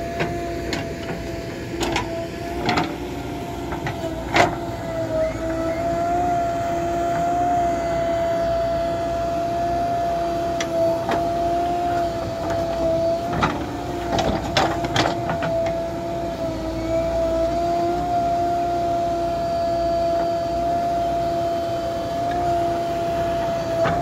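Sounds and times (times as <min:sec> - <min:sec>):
backhoe loader engine whine: 0:00.0 - 0:24.0.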